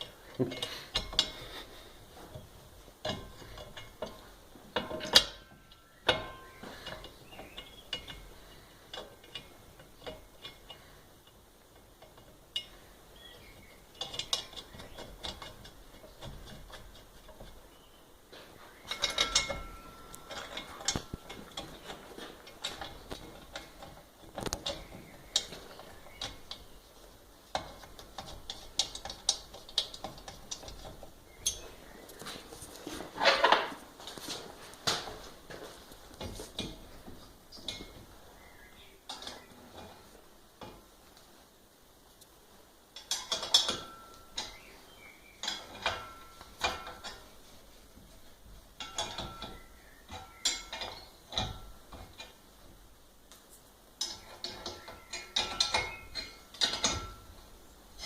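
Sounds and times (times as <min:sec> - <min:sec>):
metallic clicks and clanks: 0:00.0 - 0:38.1, 0:39.0 - 0:41.0, 0:42.2 - 0:58.0.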